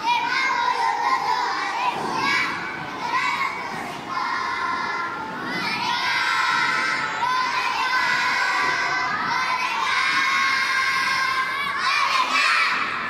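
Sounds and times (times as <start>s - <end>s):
children's choir singing: 0.0s - 13.0s.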